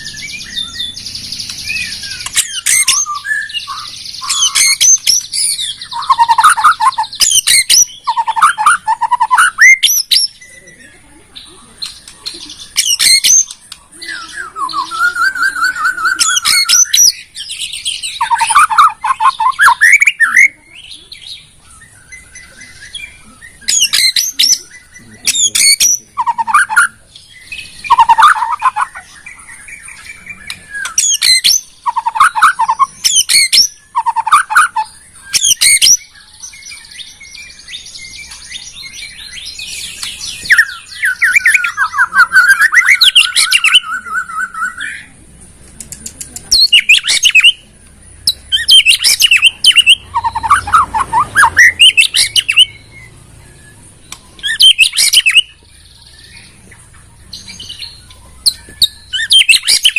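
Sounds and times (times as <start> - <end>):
bird singing whistled notes: 0.0 - 11.0, 11.8 - 45.2, 46.4 - 59.9.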